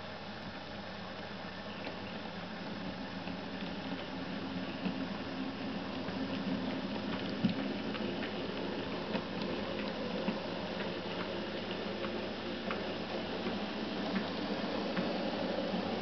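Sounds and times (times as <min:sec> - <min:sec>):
model train motor hum and rattle: 0:00.0 - 0:16.0
wheels clicking over rail joints: 0:02.8 - 0:16.0.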